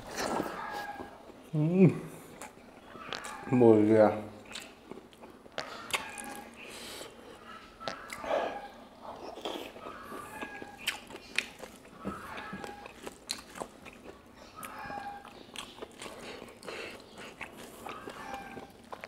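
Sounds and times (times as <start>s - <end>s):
chewing food: 2.3s - 3.6s, 4.4s - 19.0s.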